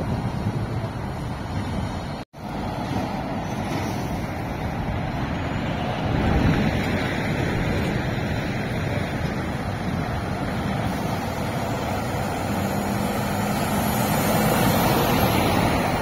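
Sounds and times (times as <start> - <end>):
lorry diesel engine and tyres: 0.0 - 16.0
wind buffeting microphone: 0.0 - 16.0.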